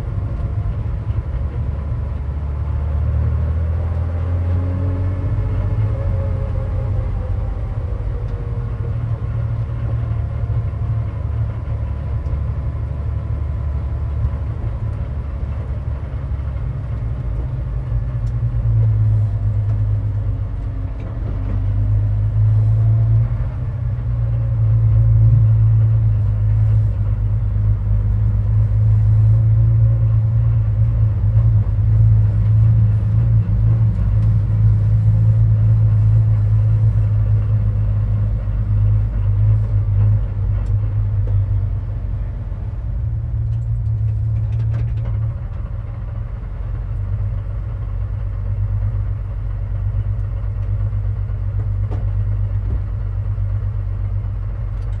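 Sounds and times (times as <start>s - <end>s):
race car engine at low revs: 0.0s - 55.0s.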